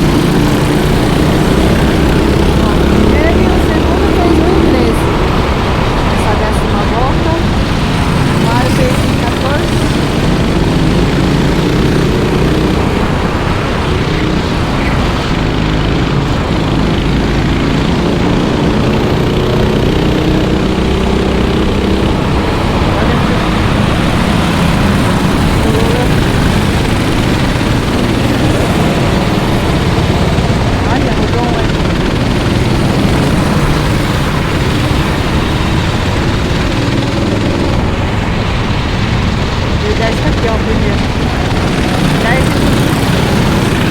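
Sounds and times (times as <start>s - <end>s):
kart engines droning: 0.0s - 43.9s.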